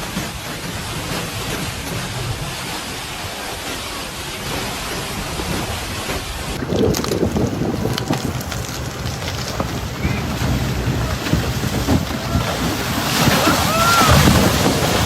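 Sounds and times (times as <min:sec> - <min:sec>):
steady outdoor rush: 0:00.0 - 0:15.0
wind buffeting microphone: 0:00.0 - 0:15.0.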